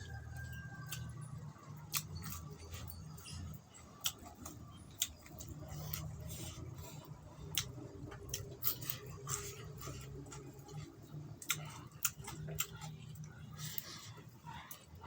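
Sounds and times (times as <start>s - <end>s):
chewing with wet smacking: 0.0s - 15.0s
low steady hum: 0.0s - 15.0s.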